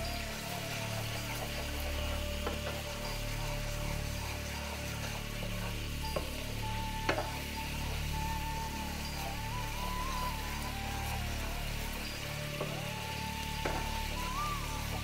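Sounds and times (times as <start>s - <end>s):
background music: 0.0s - 15.0s
onions sizzling and bubbling: 0.0s - 15.0s.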